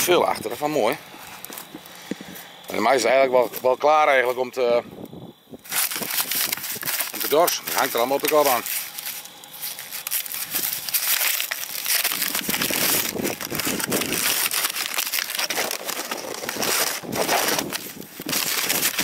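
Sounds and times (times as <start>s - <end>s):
dry corn husks crackling: 0.0s - 19.0s.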